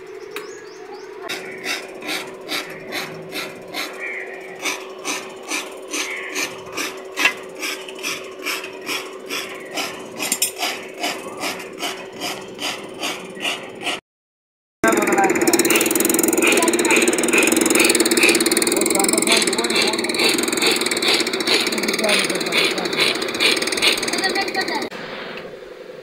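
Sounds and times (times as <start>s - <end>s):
forge blower whining: 0.0s - 14.0s, 14.8s - 26.0s
rhythmic rasping rub: 1.2s - 14.0s, 14.8s - 24.9s.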